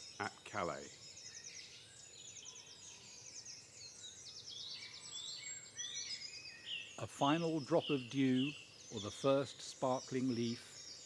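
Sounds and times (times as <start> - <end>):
songbirds trilling and chirping: 0.0 - 11.0.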